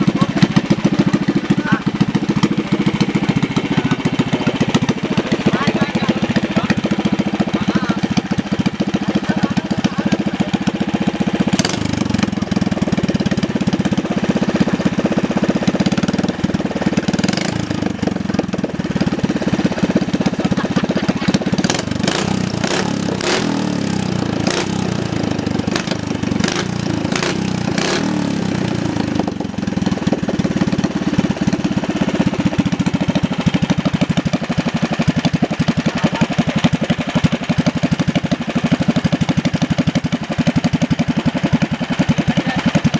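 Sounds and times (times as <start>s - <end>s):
boat engine running: 0.0s - 37.8s.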